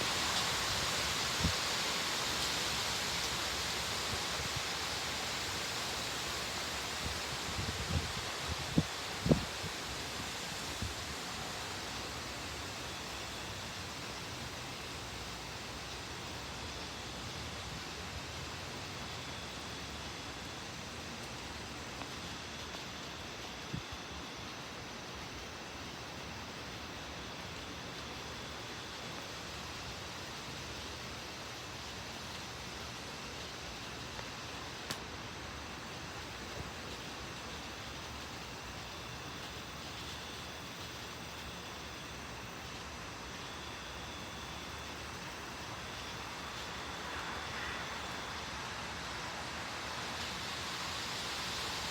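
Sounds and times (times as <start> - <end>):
thunderstorm hiss: 0.0 - 51.9.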